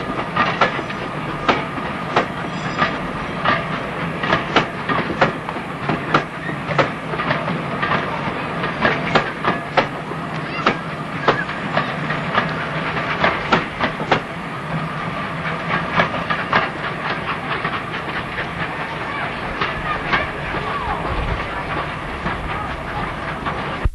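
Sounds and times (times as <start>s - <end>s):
train wheels clicking over rail joints: 0.0s - 23.9s.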